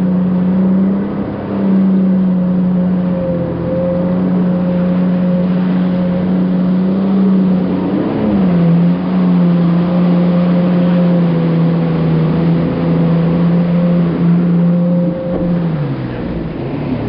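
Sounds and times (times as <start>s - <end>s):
jet ski engine droning: 0.0s - 17.0s.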